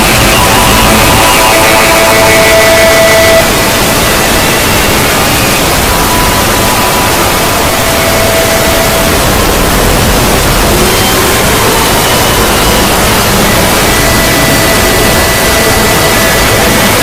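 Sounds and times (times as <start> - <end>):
faint held tones: 0.0 - 17.0
static-like noise: 0.0 - 17.0.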